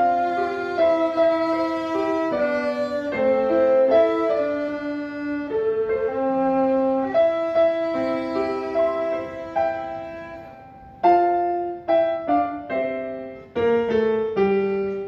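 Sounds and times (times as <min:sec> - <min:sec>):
violin bowed slow melody: 0:00.0 - 0:11.5, 0:13.4 - 0:15.0
piano accompaniment: 0:00.0 - 0:15.0.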